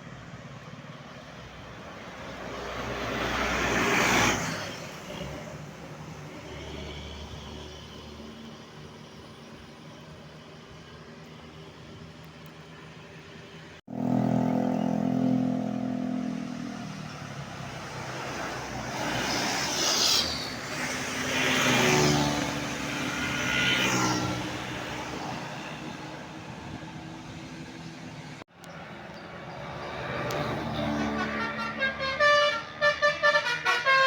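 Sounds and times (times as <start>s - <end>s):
vehicles rushing past: 0.0s - 34.0s.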